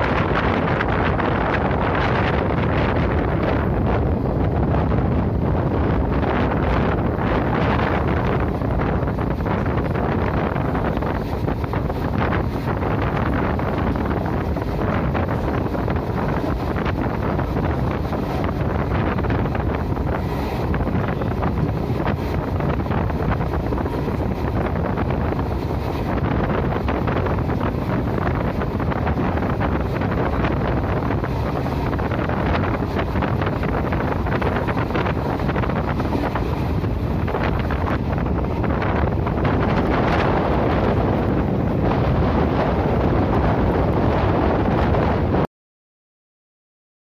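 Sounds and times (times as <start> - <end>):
train running noise: 0.0 - 45.4
wind rushing over microphone: 0.0 - 45.5.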